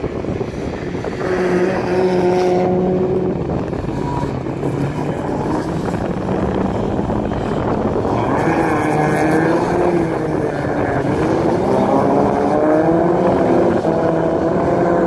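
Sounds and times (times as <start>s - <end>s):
racing car engines revving: 0.0s - 15.0s
steady rush of noise: 0.0s - 15.0s.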